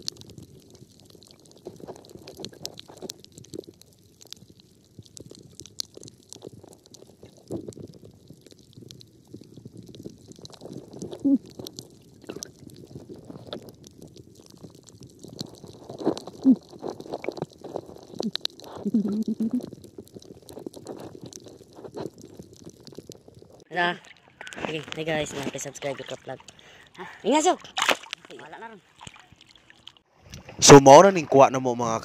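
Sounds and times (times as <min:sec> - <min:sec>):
faint crackling clicks: 0:00.0 - 0:25.7
underwater gurgling rumble: 0:00.0 - 0:26.9
bubbly gurgles: 0:00.0 - 0:30.7.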